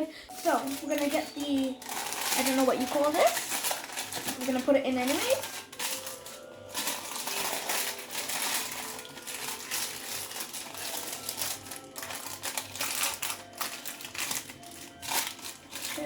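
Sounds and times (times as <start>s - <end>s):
thin sheet crinkling: 0.3s - 16.0s.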